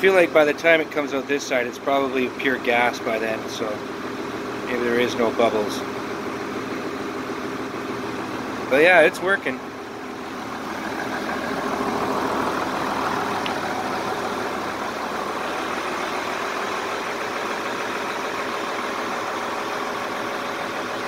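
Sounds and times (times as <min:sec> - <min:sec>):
diesel generator running: 0:00.0 - 0:21.0.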